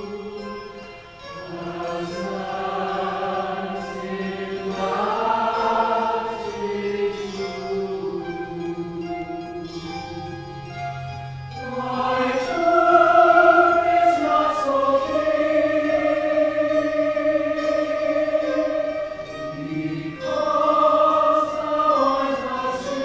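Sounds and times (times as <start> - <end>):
mixed choir singing: 0.0 - 0.6, 1.3 - 10.8, 11.6 - 23.0.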